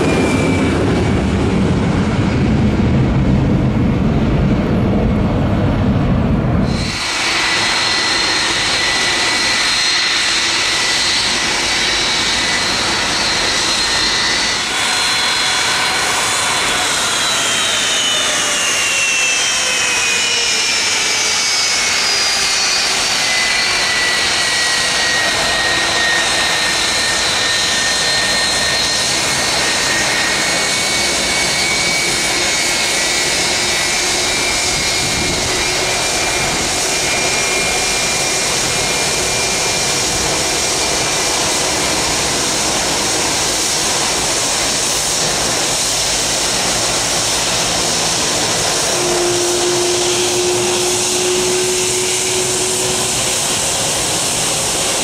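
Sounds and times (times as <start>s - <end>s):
even rush of jet engines: 0.0s - 55.0s
jet engine whine: 0.0s - 55.0s.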